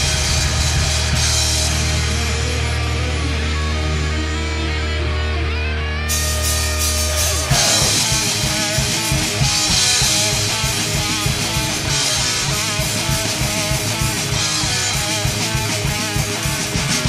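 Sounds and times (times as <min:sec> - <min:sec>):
distorted electric guitar chord: 0:00.0 - 0:17.0
thrash metal band playing: 0:00.0 - 0:17.0.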